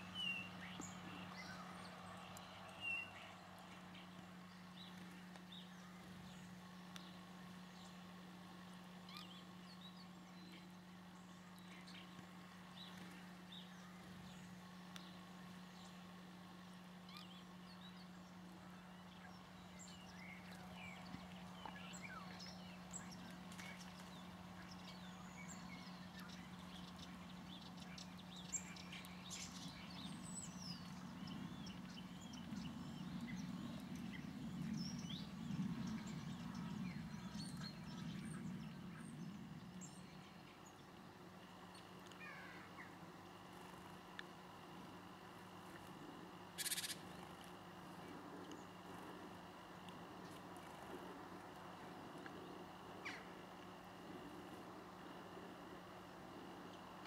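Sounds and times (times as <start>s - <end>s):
birds chirping and twittering: 0.0s - 57.0s
steady low hum: 0.0s - 57.0s.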